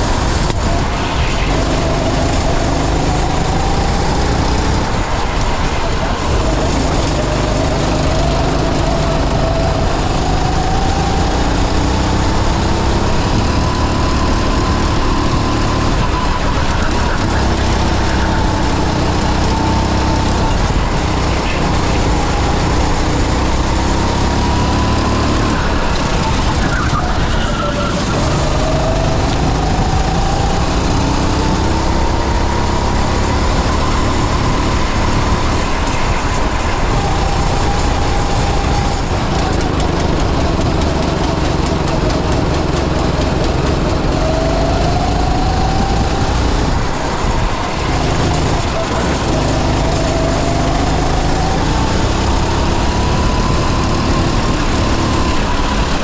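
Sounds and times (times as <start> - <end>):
go-kart engine whine: 0.0 - 56.0
low engine rumble and vibration: 0.0 - 56.0.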